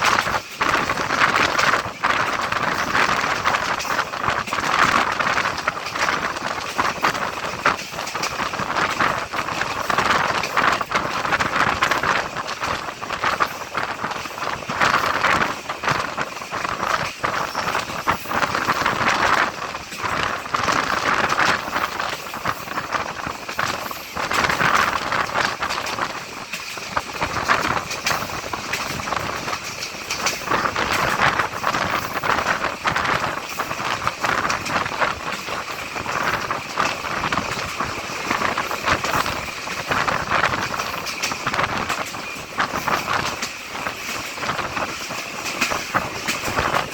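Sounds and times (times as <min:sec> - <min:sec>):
train running on track: 0:00.0 - 0:46.9
train wheels clattering: 0:00.0 - 0:46.9.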